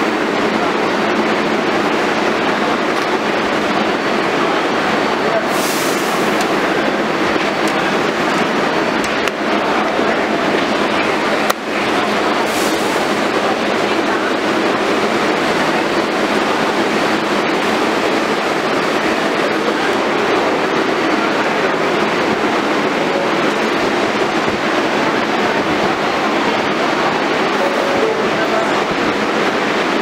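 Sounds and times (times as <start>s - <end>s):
subway train rumble and hiss: 0.0s - 30.0s.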